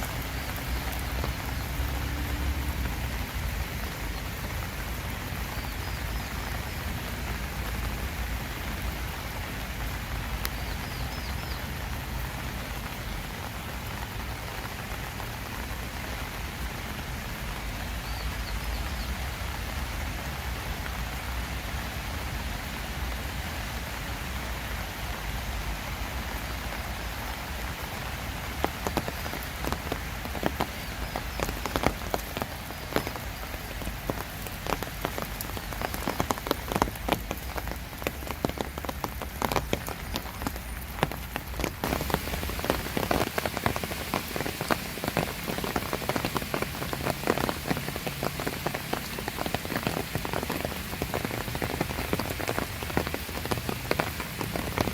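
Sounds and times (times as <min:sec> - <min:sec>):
rain pattering on surfaces: 0:00.0 - 0:54.9.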